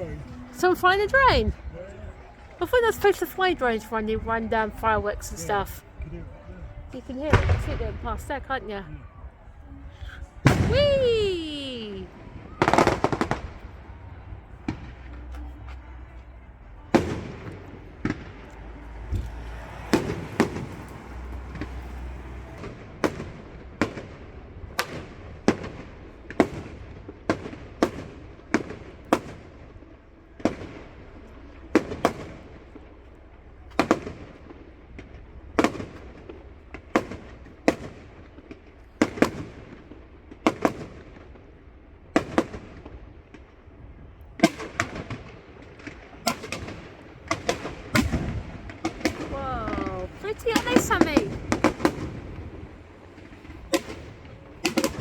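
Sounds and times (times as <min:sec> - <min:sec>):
fireworks bangs and crackles: 0:00.0 - 0:09.2, 0:10.1 - 0:55.0.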